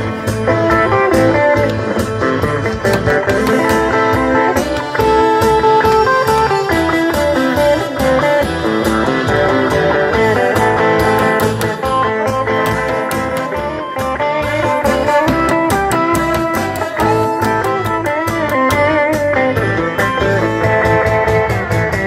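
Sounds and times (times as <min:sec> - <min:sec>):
guitar lead: 0:00.0 - 0:22.0
steady drum beat: 0:00.2 - 0:13.6, 0:14.6 - 0:19.0.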